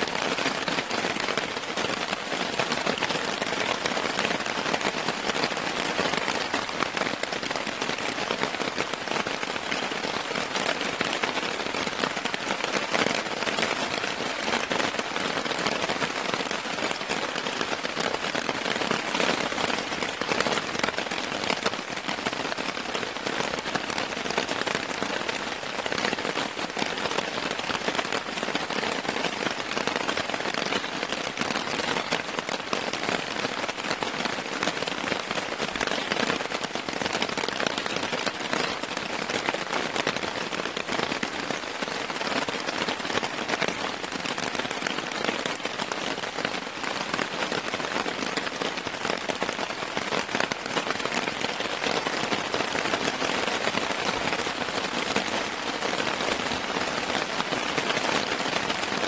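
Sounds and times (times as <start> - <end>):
rain on a tarp: 0.0 - 59.0.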